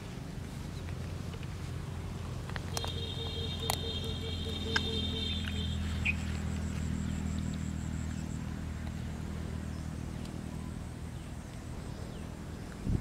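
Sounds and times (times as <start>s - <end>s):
motor engine hum: 0.0s - 13.0s.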